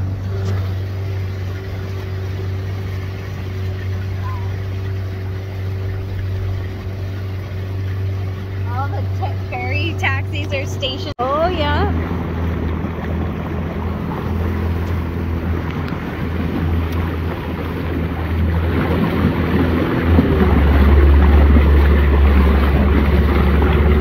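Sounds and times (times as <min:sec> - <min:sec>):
outboard motor humming: 0:00.0 - 0:24.0
water noise: 0:00.0 - 0:24.0.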